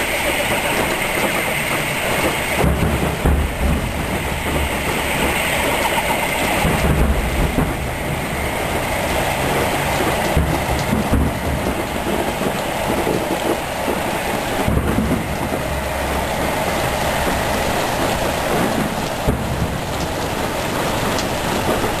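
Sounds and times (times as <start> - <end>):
heavy rain: 0.0 - 22.0
strong wind: 0.0 - 22.0
thunder rumble: 0.0 - 22.0.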